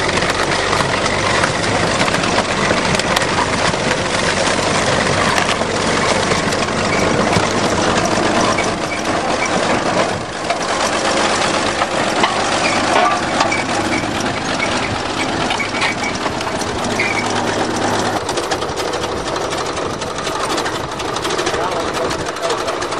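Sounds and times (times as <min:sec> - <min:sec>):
bulldozer diesel engine running: 0:00.0 - 0:22.9
metal clanks and crunches: 0:00.0 - 0:22.9.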